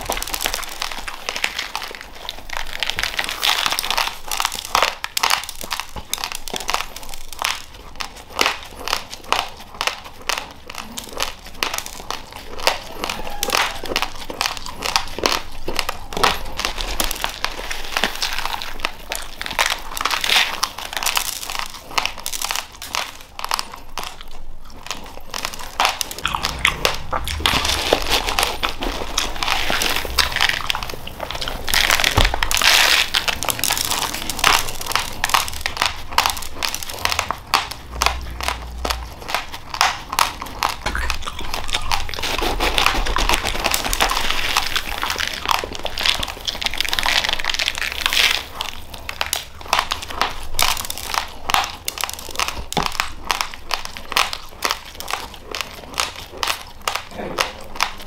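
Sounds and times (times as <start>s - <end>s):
plastic bag crinkling: 0.0s - 58.0s
raw rice being crunched and chewed: 0.0s - 58.0s.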